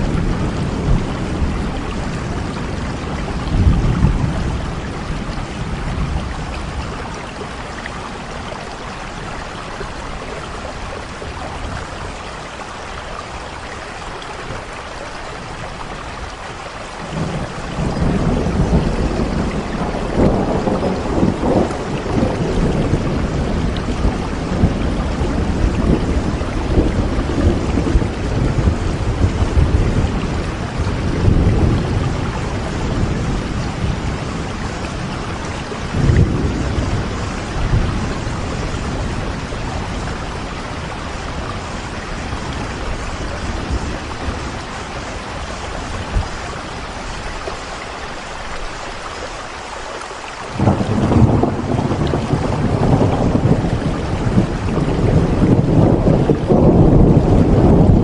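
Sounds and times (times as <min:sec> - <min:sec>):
rolling thunder: 0:00.0 - 0:12.8, 0:17.0 - 0:47.8, 0:50.5 - 0:58.0
steady rain: 0:00.0 - 0:58.0.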